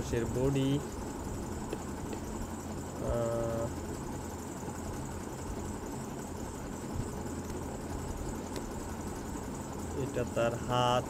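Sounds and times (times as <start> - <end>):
low background hum with hiss: 0.0 - 11.0.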